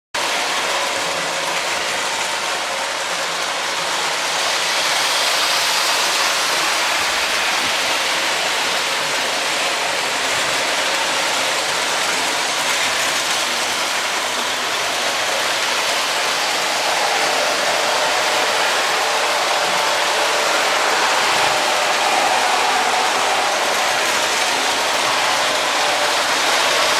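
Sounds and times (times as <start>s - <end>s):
toy trains on metal track: 0.1s - 26.9s.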